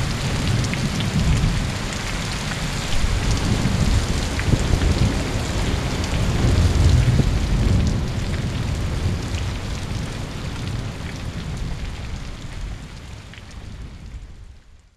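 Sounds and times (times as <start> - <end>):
low rumble of thunder: 0.0 - 14.8
heavy rain pouring: 0.0 - 14.9.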